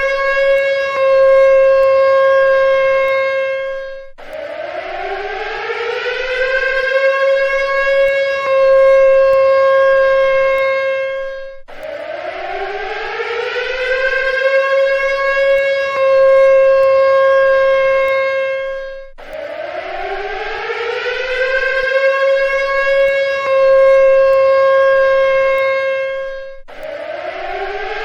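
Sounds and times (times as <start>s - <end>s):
civil defense siren wailing: 0.0s - 28.0s.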